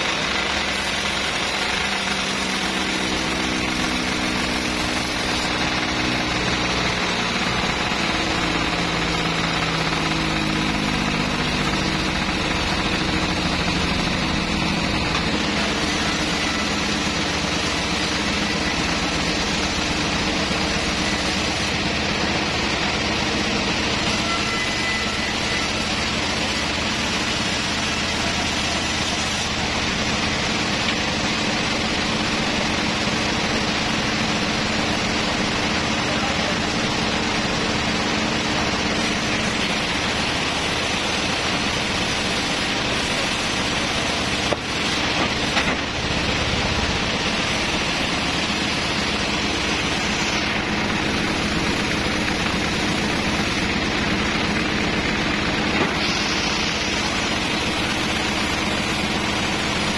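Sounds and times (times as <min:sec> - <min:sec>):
sawmill saw running: 0:00.0 - 0:59.9.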